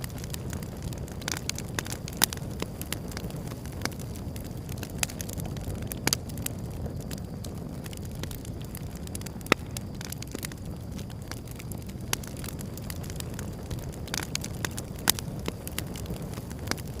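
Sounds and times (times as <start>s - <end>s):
loud fire snaps: 0.0s - 17.0s
wood fire crackling: 0.0s - 17.0s.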